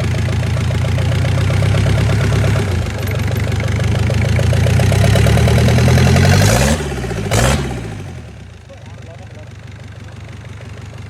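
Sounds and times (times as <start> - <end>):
truck engine clattering: 0.0 - 11.0.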